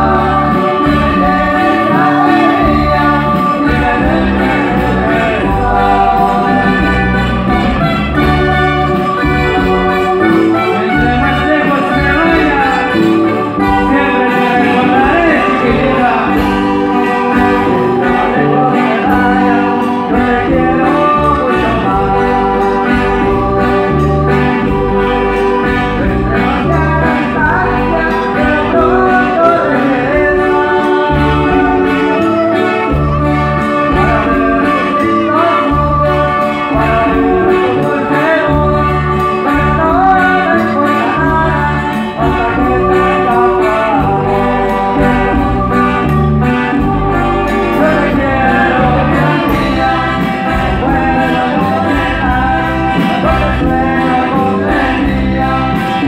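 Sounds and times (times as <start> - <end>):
acoustic guitar: 0.0 - 56.0
bass notes: 0.0 - 56.0
drums: 0.0 - 56.0
person singing: 0.0 - 56.0.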